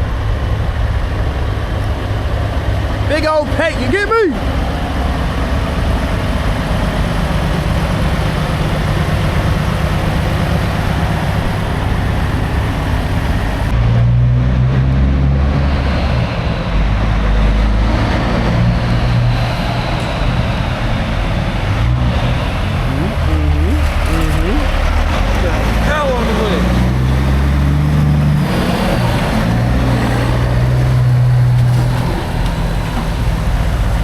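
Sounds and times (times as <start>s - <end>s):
road noise: 0.0s - 34.0s
truck engine rumble: 0.0s - 34.0s.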